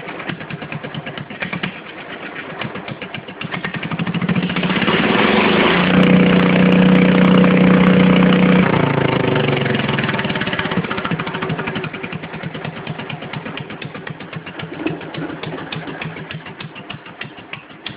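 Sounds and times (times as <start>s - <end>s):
tractor engine revving and idling: 0.0s - 17.9s.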